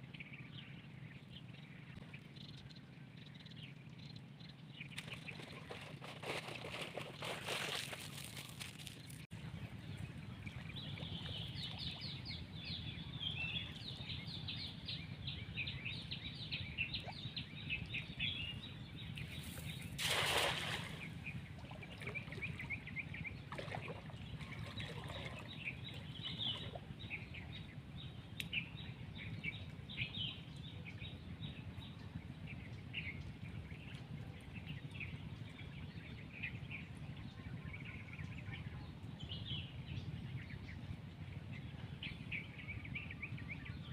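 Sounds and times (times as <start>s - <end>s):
low background rumble: 0.0s - 43.9s.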